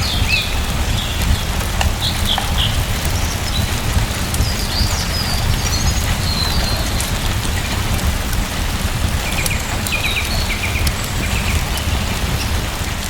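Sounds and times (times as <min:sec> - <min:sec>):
deep low rumble: 0:00.0 - 0:12.6
rain falling: 0:00.0 - 0:13.0.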